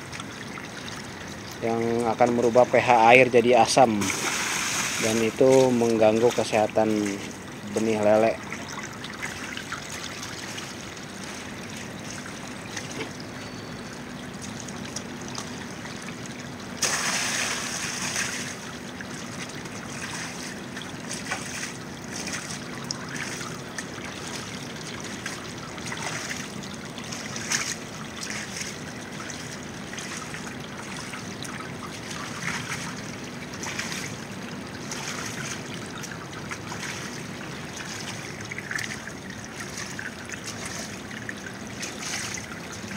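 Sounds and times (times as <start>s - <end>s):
water rushing burst: 0.0s - 13.3s, 13.9s - 42.9s
water trickling: 0.0s - 42.9s.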